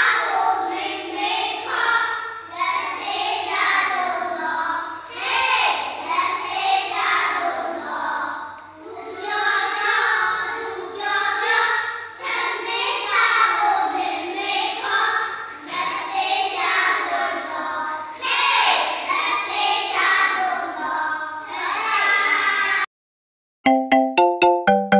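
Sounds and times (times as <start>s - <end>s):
children singing in unison: 0.0s - 22.9s.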